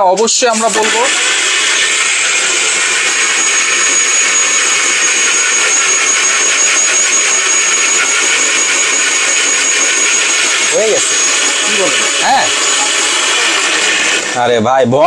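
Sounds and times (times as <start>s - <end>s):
high whine: 0.0s - 15.0s
mixer grinder motor whirring: 0.0s - 15.0s.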